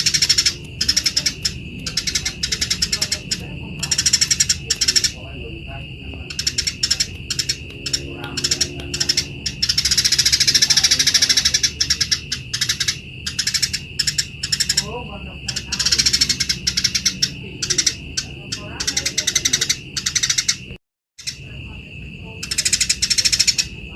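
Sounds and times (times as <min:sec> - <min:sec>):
sparrows chattering: 0:00.0 - 0:23.9
steady high tone: 0:00.0 - 0:23.9.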